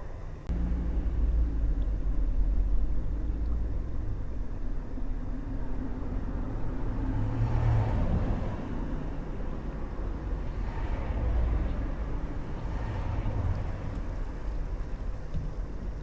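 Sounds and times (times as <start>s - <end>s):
road traffic rumble: 0.0s - 16.0s
vehicles passing: 0.5s - 16.0s.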